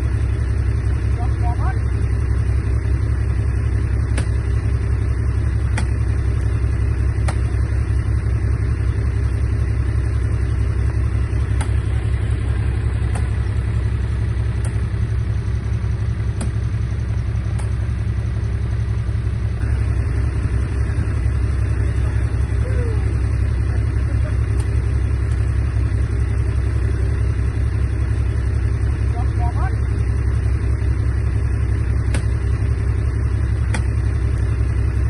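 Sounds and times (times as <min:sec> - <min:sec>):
bulldozer diesel engine rumbling: 0:00.0 - 0:35.0.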